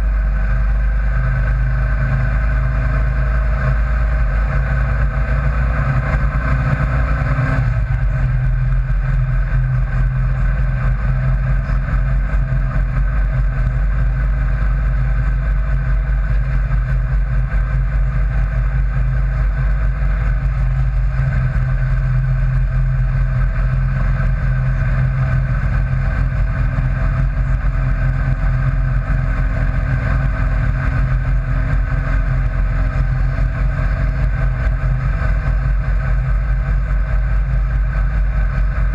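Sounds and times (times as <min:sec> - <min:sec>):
car engine cruising: 0:00.0 - 0:38.9.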